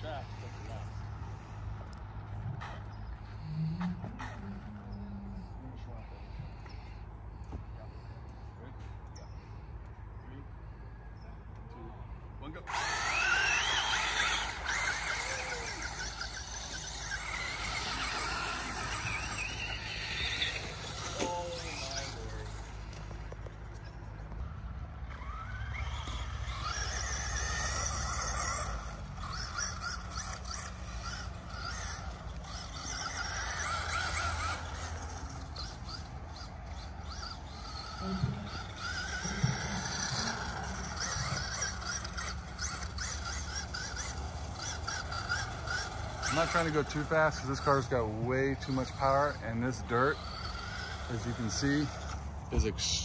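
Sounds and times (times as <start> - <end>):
electric toy car motor whining: 0.0 - 8.4, 12.5 - 53.0.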